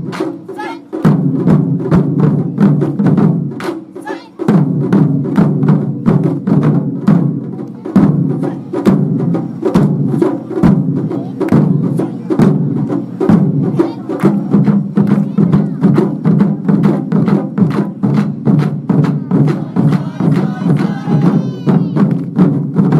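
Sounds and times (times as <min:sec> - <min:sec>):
taiko drums pounding: 0:00.0 - 0:22.9.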